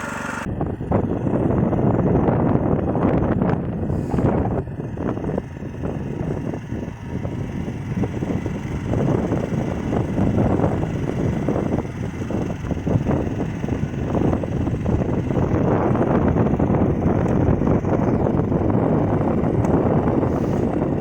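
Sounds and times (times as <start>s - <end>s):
walk-behind tractor engine running: 0.0s - 21.0s
wind buffeting microphone: 0.0s - 21.0s.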